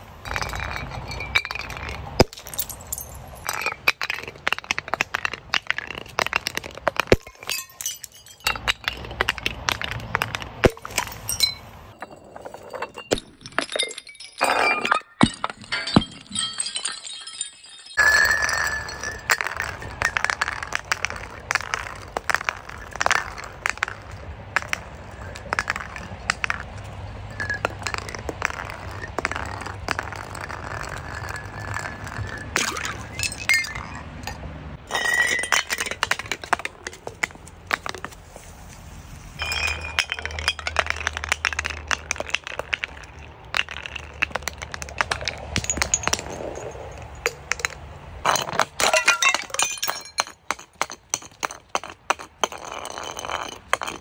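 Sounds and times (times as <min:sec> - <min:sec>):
glass bottle breaking: 0:00.2 - 0:24.0, 0:27.3 - 0:34.0, 0:34.9 - 0:38.0, 0:39.4 - 0:54.0
bottles clinking down concrete steps: 0:00.2 - 0:38.2, 0:39.4 - 0:54.0.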